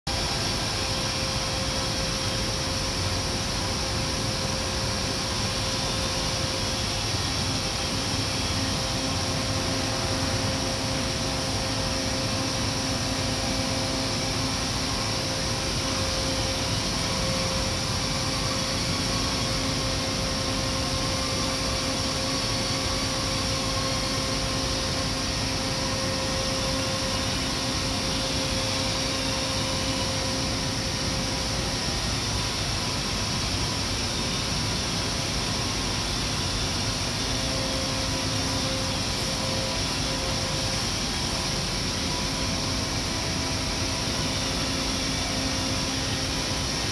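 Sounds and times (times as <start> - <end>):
constant high whine: 0.1 - 46.9
factory machinery hum: 0.1 - 46.9.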